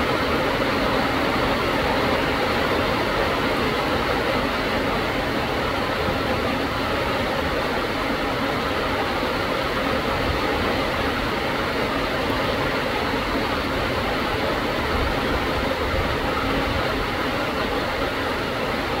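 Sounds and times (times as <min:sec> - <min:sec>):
heavy rain on foliage: 0:00.0 - 0:19.0.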